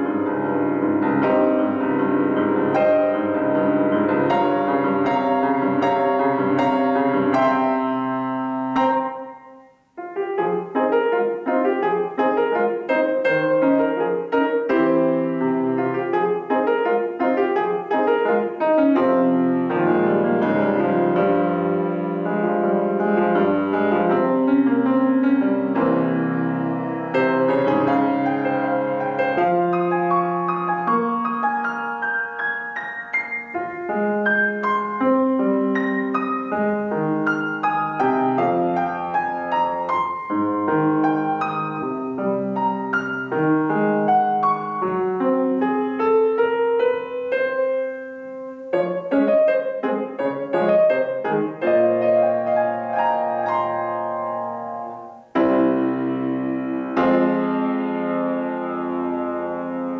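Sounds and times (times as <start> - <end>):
solo classical piano: 0.0 - 59.9.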